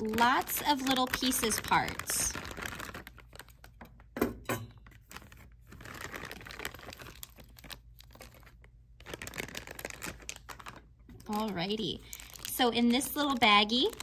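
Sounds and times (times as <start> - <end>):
plastic bags crinkling: 0.0 - 4.2, 4.8 - 14.0.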